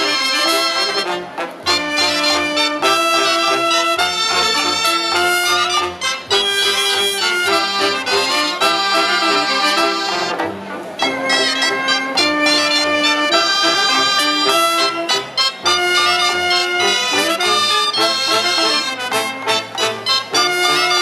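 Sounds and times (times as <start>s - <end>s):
wind band playing dance music: 0.0s - 21.0s.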